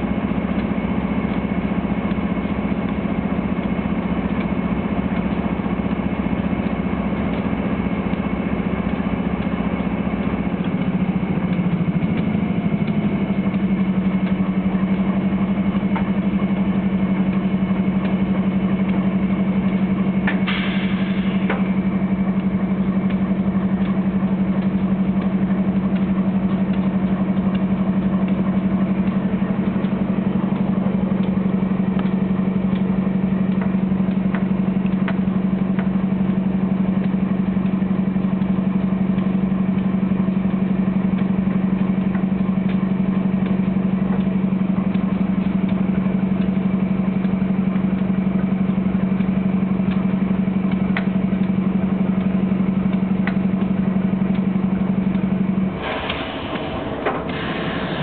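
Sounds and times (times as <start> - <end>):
diesel locomotive engine humming: 0.0 - 58.0.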